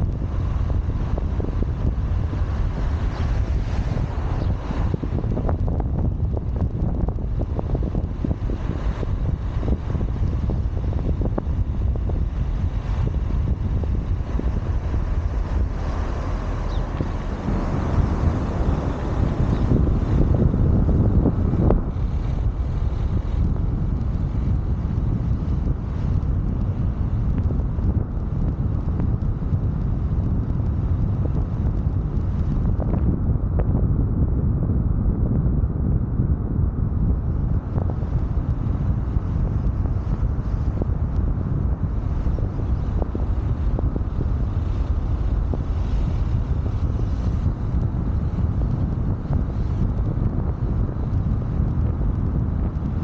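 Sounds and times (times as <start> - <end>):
car tyres and engine rumble: 0.0 - 53.0
wind buffeting microphone: 0.0 - 53.0.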